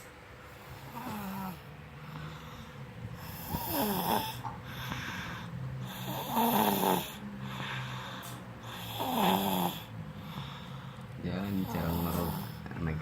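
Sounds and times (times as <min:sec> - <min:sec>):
child snoring: 0:00.7 - 0:12.6.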